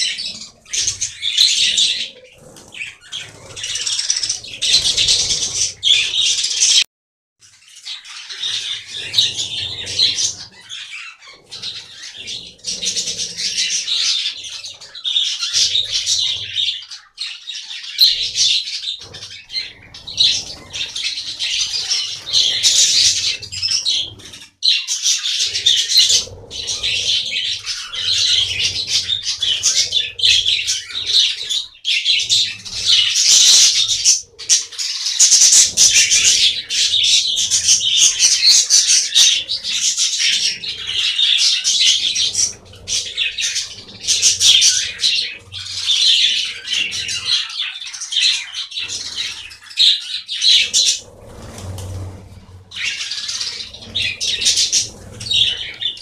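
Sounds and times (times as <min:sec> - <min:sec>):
budgerigars chattering: 0:00.0 - 0:06.8, 0:07.6 - 0:52.1, 0:52.7 - 0:56.0
wings fluttering: 0:00.0 - 0:06.8, 0:08.0 - 0:56.0.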